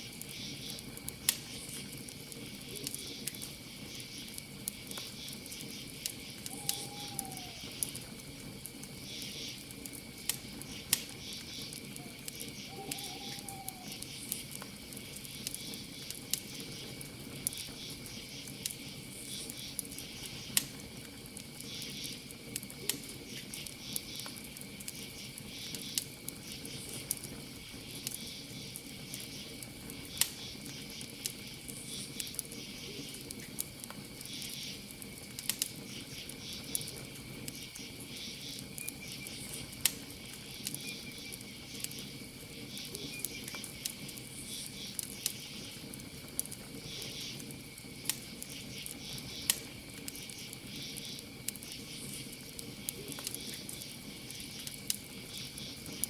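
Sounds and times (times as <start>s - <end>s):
campfire crackling: 0.0s - 56.0s
crickets chirring: 0.0s - 56.0s.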